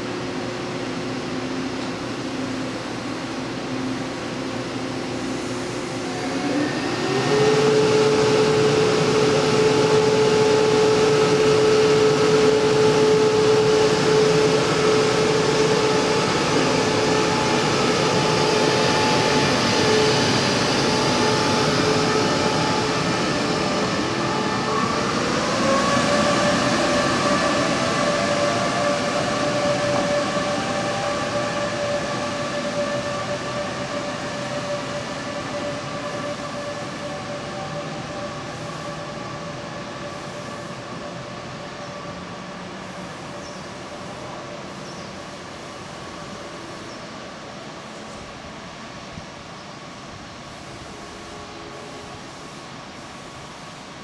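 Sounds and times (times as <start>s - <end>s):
electric train traction whine: 0.0s - 49.2s
wheels rumbling on rail: 0.0s - 54.0s.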